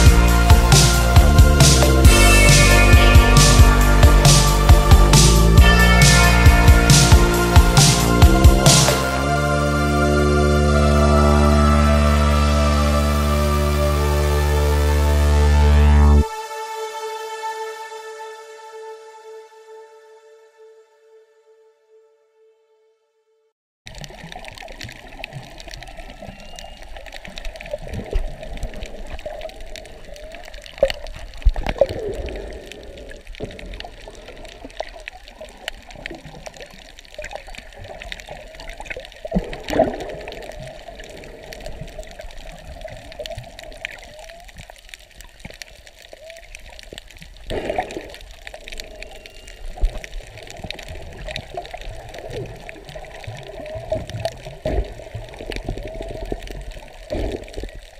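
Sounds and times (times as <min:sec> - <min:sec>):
water movement: 0:00.0 - 0:16.5, 0:23.9 - 0:57.9
whale song: 0:00.0 - 0:22.6, 0:24.2 - 0:57.9.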